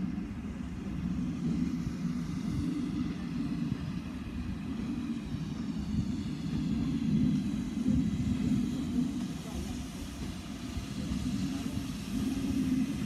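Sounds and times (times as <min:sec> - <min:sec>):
distant steam locomotive rumble: 0:00.0 - 0:13.0.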